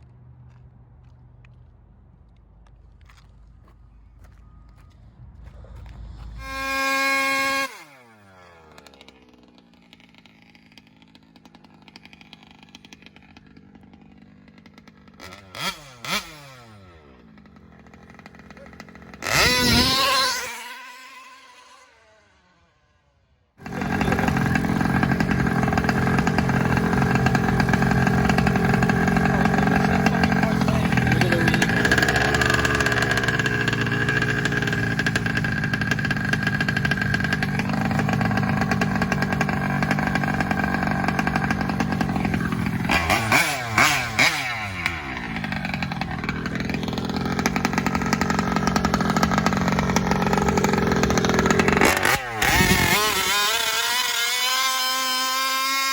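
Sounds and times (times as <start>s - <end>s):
rc car engine revving: 6.0s - 23.0s, 23.6s - 55.9s.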